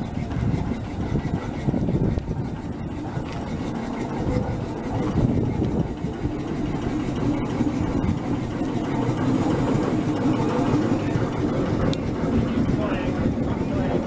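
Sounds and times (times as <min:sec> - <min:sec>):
steam locomotive rumbling: 0:00.0 - 0:14.0.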